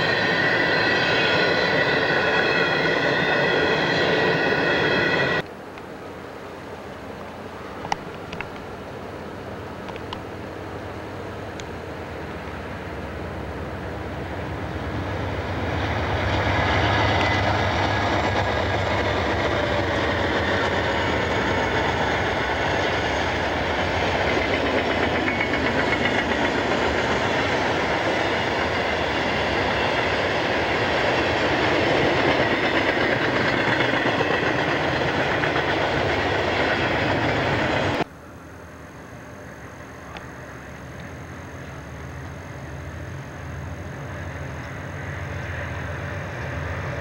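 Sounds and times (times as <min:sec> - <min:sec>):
freight train passing: 0:00.0 - 0:47.0.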